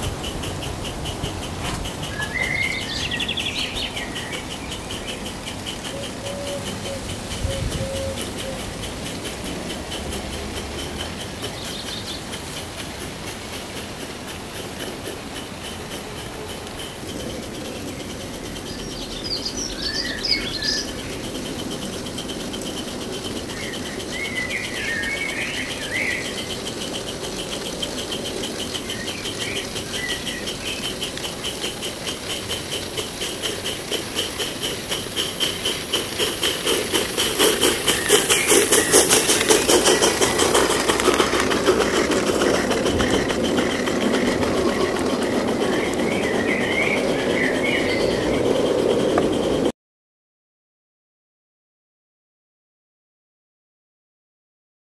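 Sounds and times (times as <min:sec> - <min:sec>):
birds chirping: 0:00.0 - 0:49.7
coaches rolling: 0:00.0 - 0:49.7
steam locomotive chuffing: 0:00.0 - 0:49.7.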